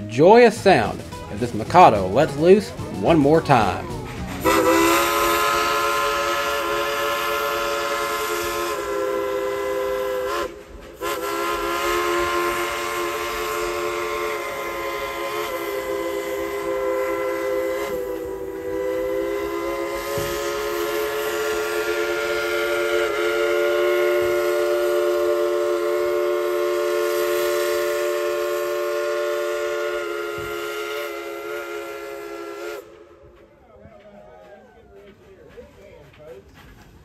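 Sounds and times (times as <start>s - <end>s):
steam locomotive whistle blast: 0.0s - 33.7s.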